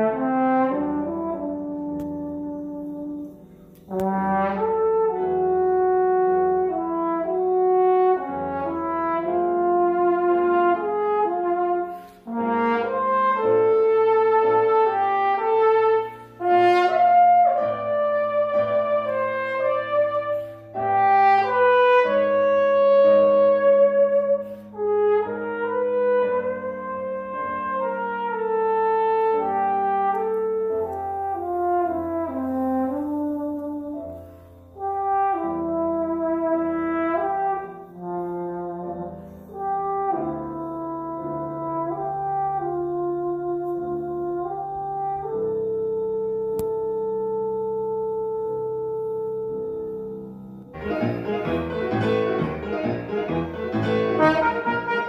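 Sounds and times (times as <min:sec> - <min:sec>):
trombone solo: 0:00.0 - 0:50.2, 0:50.8 - 0:55.0
piano accompaniment: 0:00.0 - 0:55.0.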